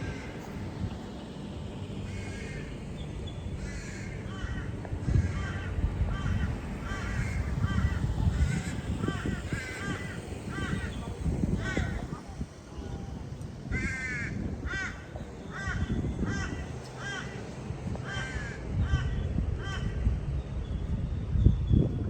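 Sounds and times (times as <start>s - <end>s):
low rumble: 0.0s - 22.0s
birds calling: 1.0s - 12.2s, 13.7s - 20.8s.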